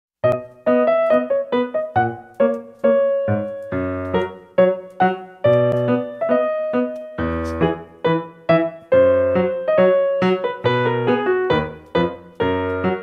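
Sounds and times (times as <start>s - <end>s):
piano melody: 0.2s - 13.0s.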